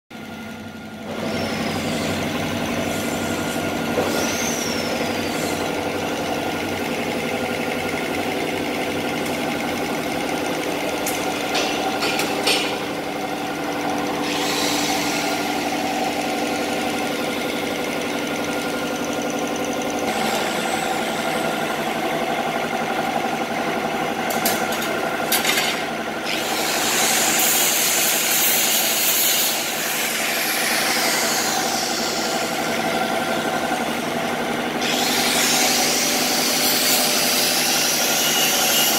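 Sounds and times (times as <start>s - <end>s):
workshop machinery humming: 0.1s - 38.9s.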